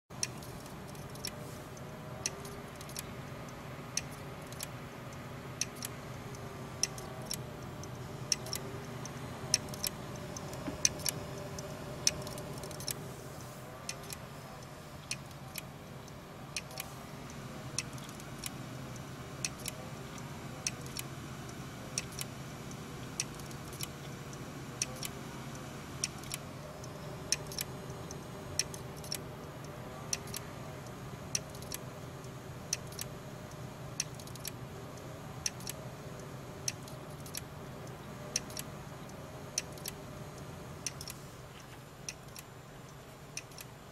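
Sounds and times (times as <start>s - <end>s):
hard drive clicking: 0.2s - 43.9s
low hum: 0.2s - 43.9s.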